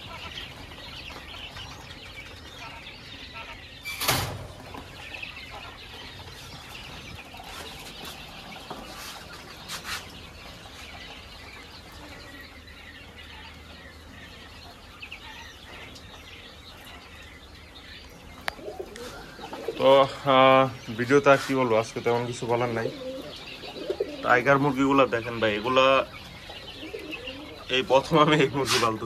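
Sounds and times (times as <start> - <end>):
birds rustling in cage: 0.0 - 29.0.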